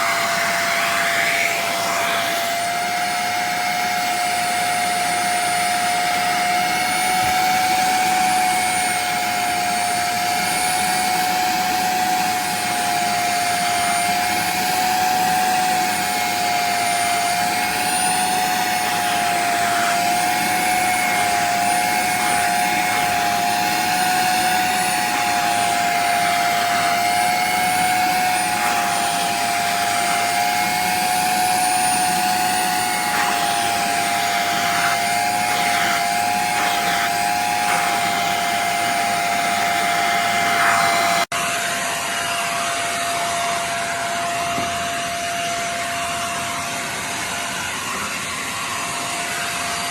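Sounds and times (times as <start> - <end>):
wet-vacuum motor whining: 0.0 - 41.3.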